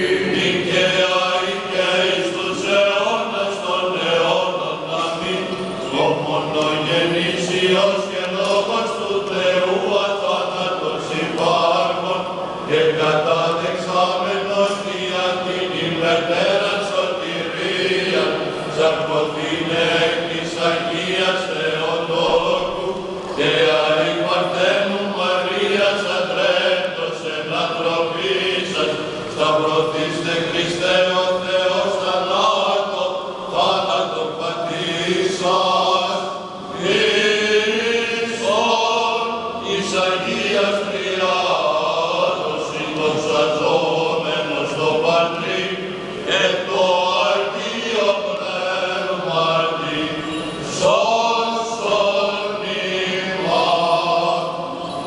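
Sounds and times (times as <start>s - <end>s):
group chanting over a drone: 0.0s - 55.0s.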